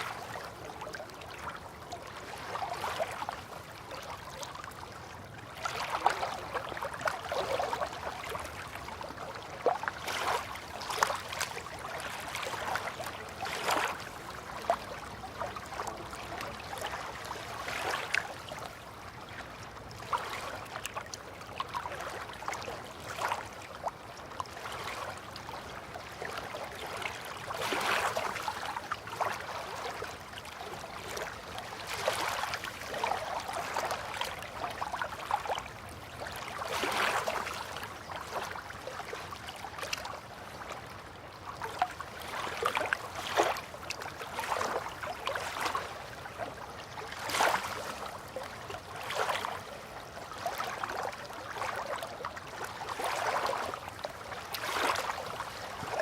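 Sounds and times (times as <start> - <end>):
river water lapping and gurgling: 0.0 - 56.0
small water splashes: 0.0 - 56.0.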